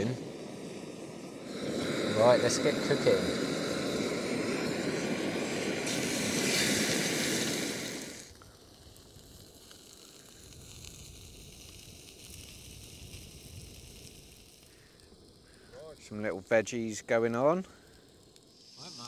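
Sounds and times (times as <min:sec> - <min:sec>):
steak sizzling in a frying pan: 0:00.0 - 0:19.0.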